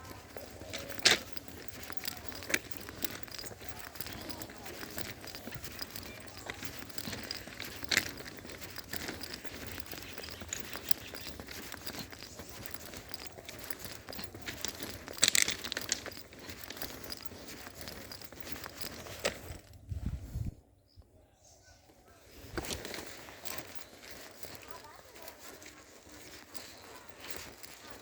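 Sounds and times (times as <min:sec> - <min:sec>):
footsteps crunching underfoot: 0:00.0 - 0:20.5, 0:21.9 - 0:28.0.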